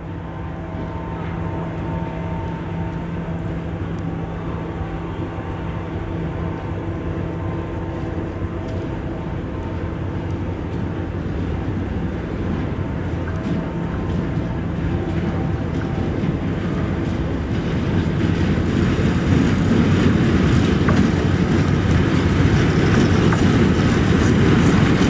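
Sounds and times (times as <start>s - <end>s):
electric locomotive hum: 0.0s - 25.0s
train low rumble: 0.0s - 25.0s.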